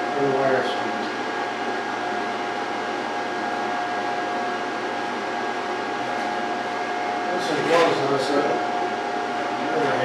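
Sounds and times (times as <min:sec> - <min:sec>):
fan whirring with hum: 0:00.0 - 0:10.0.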